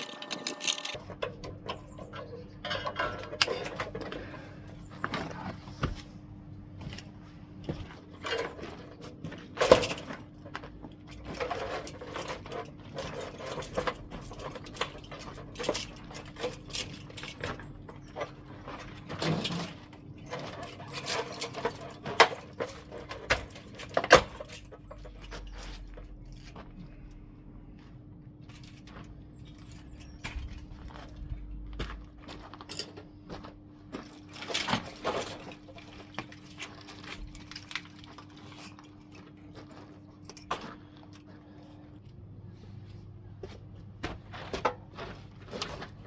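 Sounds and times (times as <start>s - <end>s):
metal parts clicking and clattering: 0.0s - 5.5s, 7.6s - 27.2s, 28.4s - 42.1s.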